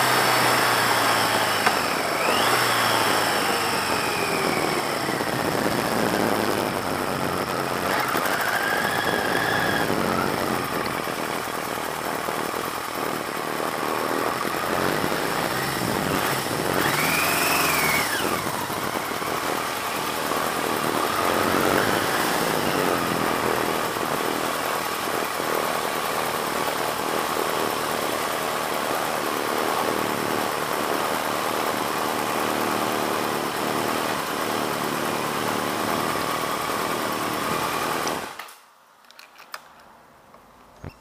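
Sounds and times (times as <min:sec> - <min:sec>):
motorcycle engine idling: 0:00.2 - 0:38.3.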